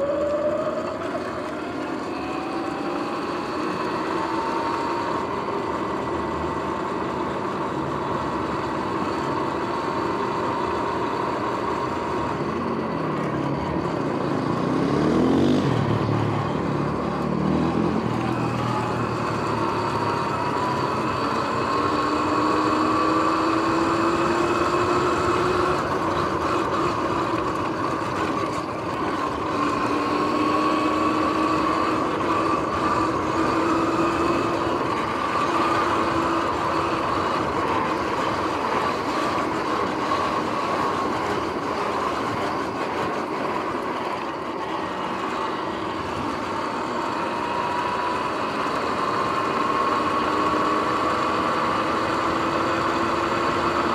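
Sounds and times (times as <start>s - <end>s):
electric motor whine: 0.0s - 53.9s
wind and tyre noise: 0.0s - 53.9s.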